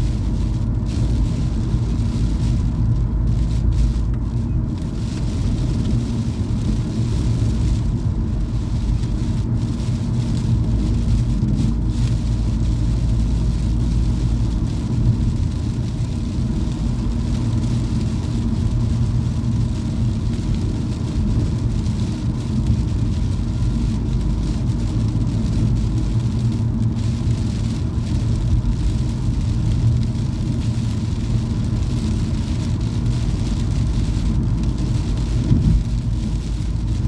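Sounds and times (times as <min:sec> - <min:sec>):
car road and engine rumble: 0:00.0 - 0:37.0.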